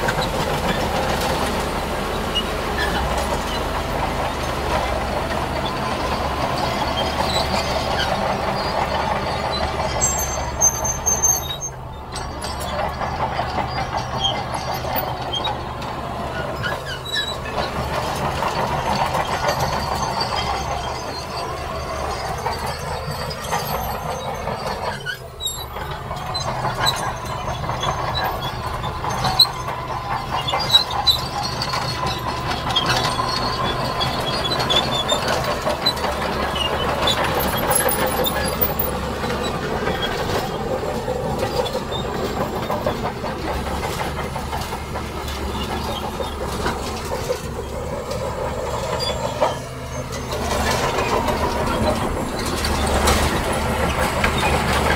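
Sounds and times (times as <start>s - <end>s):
diesel machinery running: 0.0s - 54.9s
metallic squeaks: 0.1s - 54.9s.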